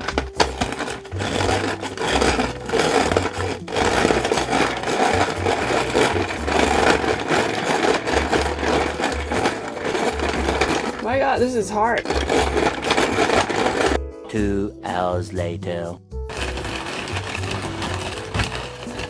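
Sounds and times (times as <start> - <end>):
ice shaver grinding ice: 0.0 - 14.0, 16.3 - 19.0.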